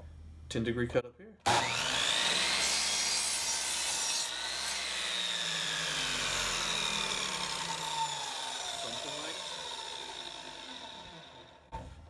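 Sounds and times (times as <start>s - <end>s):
miter saw cutting wood: 1.5s - 11.8s.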